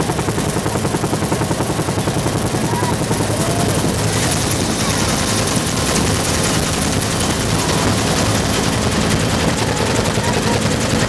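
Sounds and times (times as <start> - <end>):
helicopter rotor chopping: 0.0 - 11.0
helicopter turbine noise: 0.0 - 11.0.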